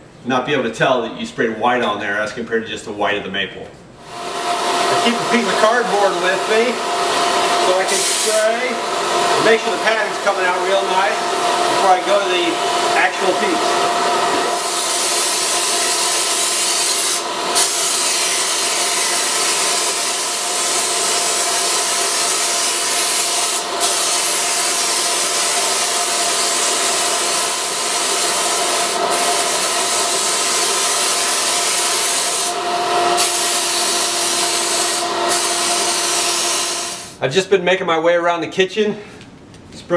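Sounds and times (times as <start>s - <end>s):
compressed air hose whining: 4.0s - 37.2s
spray gun hissing: 4.2s - 37.2s.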